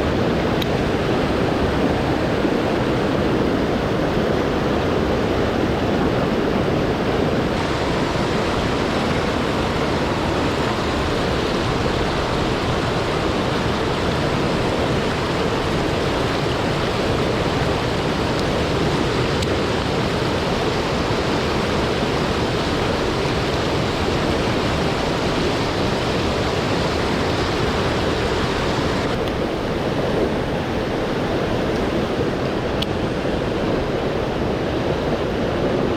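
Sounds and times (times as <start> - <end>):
mountain stream rushing: 0.0 - 35.9.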